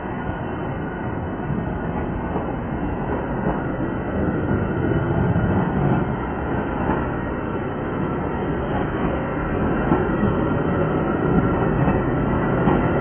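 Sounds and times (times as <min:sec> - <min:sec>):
diesel locomotive: 0:00.0 - 0:13.0
train wheels rumbling on rails: 0:00.0 - 0:13.0.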